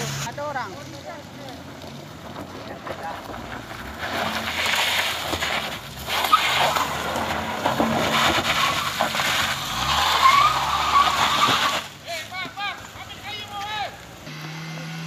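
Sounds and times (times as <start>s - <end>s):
engine running under load: 0.0s - 12.0s, 14.0s - 15.0s
tyres on loose gravel: 0.0s - 15.0s.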